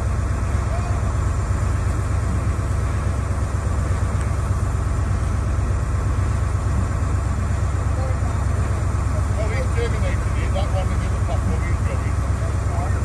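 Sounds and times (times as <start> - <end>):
locomotive idling rumble: 0.0 - 13.0.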